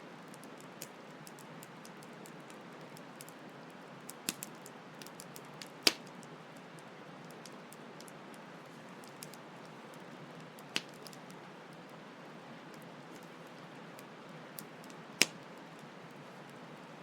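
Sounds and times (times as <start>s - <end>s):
campfire crackling and popping: 0.2s - 3.4s, 4.0s - 12.0s, 12.7s - 16.9s.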